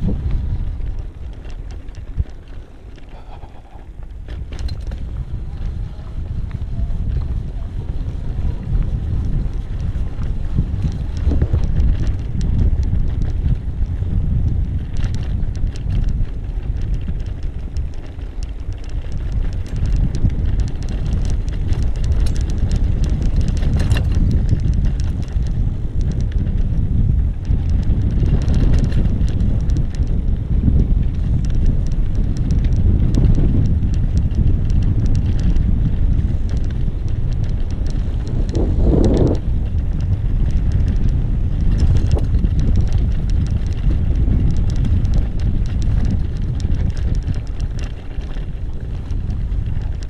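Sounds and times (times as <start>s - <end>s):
bike clicks and rattles: 0.0s - 50.0s
wind buffeting microphone: 0.0s - 50.0s.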